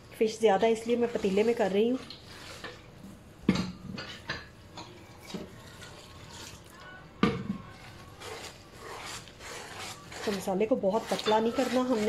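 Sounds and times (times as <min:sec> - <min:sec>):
whisk stirring batter in metal pot: 0:00.3 - 0:03.0, 0:04.0 - 0:06.8, 0:07.6 - 0:12.0.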